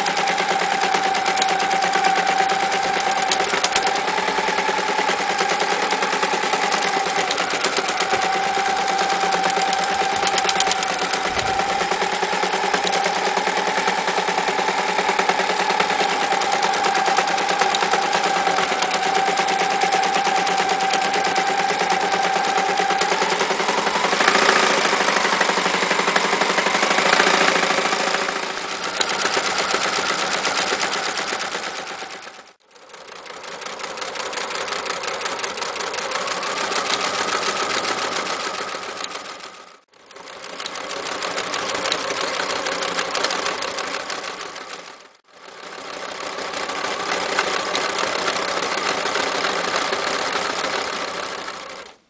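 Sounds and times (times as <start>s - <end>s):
sewing machine motor whine: 0.0s - 52.0s
sewing needle rattling: 0.0s - 52.0s.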